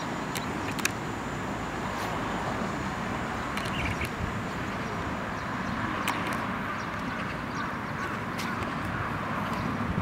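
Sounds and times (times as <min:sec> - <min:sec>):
hiss with low rumble: 0:00.0 - 0:10.0.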